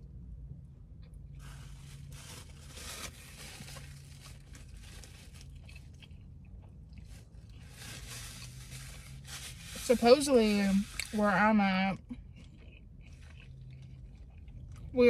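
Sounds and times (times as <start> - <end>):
low steady hum: 0.0 - 15.0
chewing and crunching food: 0.9 - 15.0.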